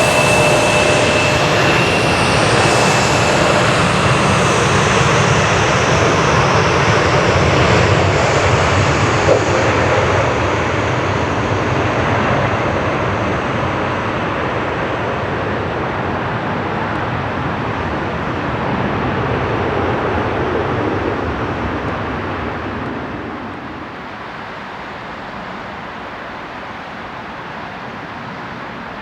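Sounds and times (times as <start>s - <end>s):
jet engine rush: 0.0s - 24.5s.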